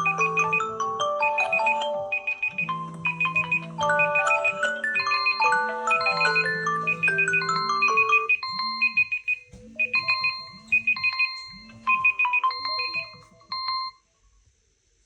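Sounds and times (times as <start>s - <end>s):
phone alarm beeps: 0.0s - 14.0s.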